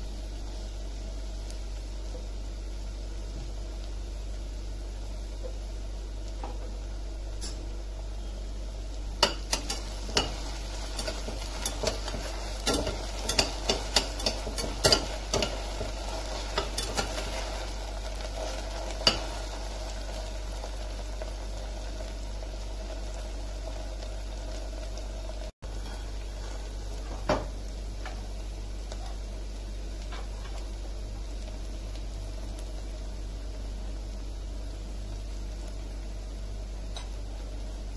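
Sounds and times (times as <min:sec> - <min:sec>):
oil sizzling: 0:00.0 - 0:37.9.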